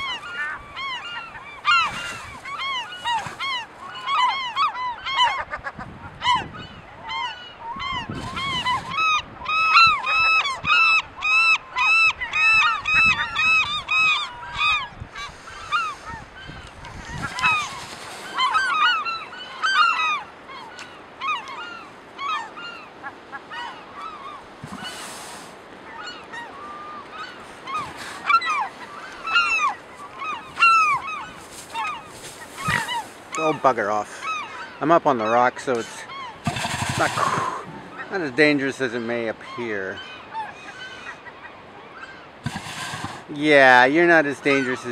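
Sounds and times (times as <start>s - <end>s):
gulls yelping calls: 0.0s - 44.9s.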